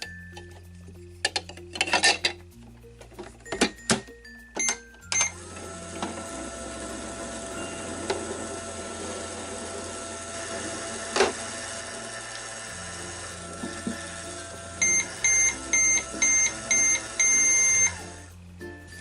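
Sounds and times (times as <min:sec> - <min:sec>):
toy microwave whirring hum: 0:00.0 - 0:19.0.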